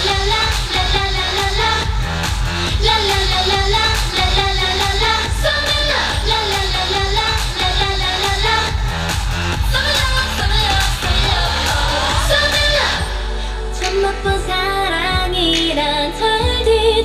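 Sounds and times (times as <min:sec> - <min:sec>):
dance-pop song over loudspeakers: 0:00.0 - 0:17.0.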